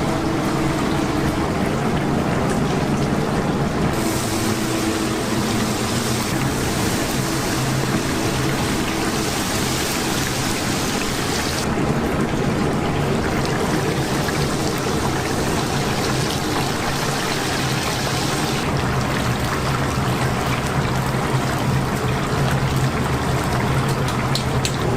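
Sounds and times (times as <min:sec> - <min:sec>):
chicken deep-frying in oil: 0:00.0 - 0:24.9
low machine hum: 0:00.0 - 0:24.9.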